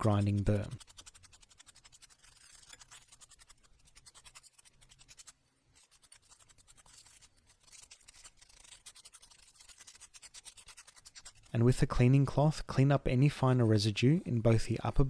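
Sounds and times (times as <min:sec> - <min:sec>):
brush scrubbing metal burr: 0:00.0 - 0:12.8.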